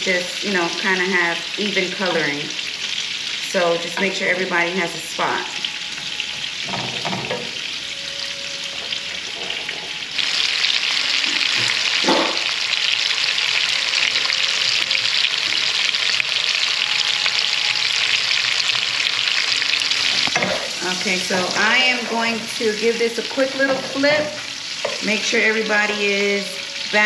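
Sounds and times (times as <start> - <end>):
sausage sizzling in frying pan: 0.0 - 27.0.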